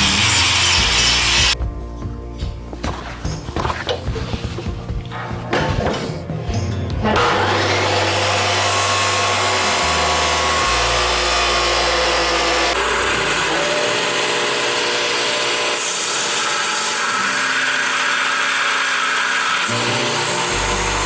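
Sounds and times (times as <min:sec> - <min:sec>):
angle grinder grinding steel: 0:00.0 - 0:01.6, 0:05.2 - 0:21.0.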